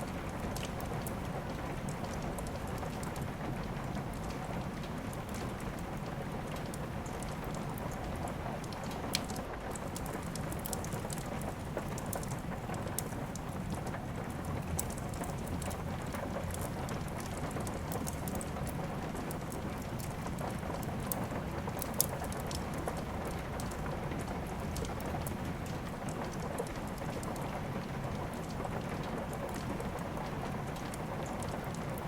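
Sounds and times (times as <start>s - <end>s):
fireplace fire crackling: 0.0s - 32.0s
steady rain: 0.0s - 32.0s.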